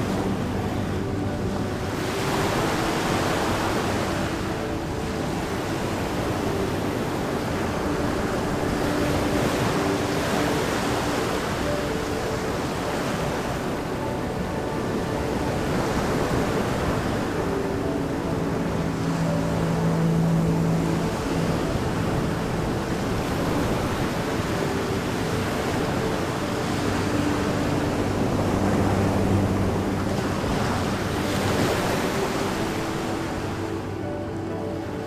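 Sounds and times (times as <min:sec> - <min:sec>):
low held tones: 0:00.0 - 0:35.0
ocean surf washing on beach: 0:00.0 - 0:35.0.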